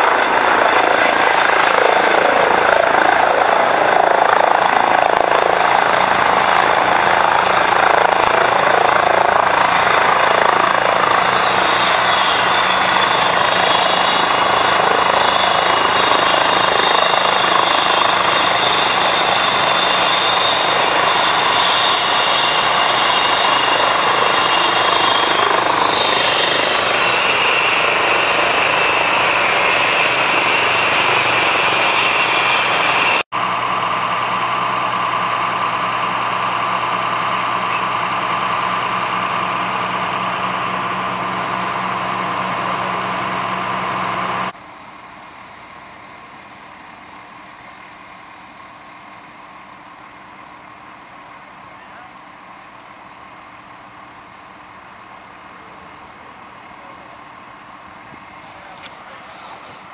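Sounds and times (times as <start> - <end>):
engine drone with low hum: 0.0 - 59.9
helicopter turbine whine and rotor: 0.0 - 59.9.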